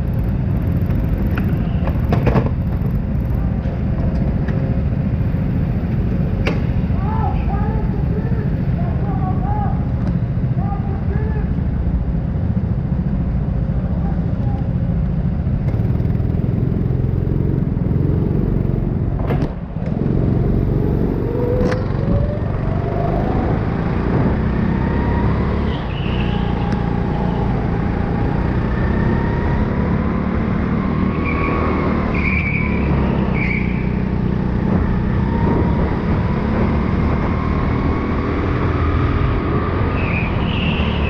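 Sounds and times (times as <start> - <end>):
go-kart engine: 0.0 - 41.0.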